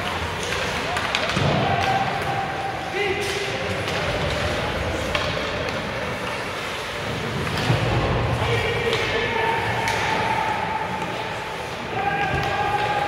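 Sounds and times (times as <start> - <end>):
hockey sticks and puck clacking: 0.0 - 13.0
voices from stands: 0.0 - 13.0.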